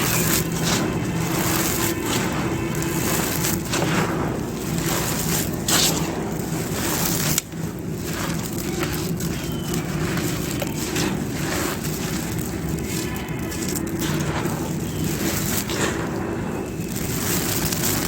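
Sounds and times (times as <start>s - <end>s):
clay pot pieces crunching: 0.0s - 18.0s
steady low hum: 0.0s - 18.0s.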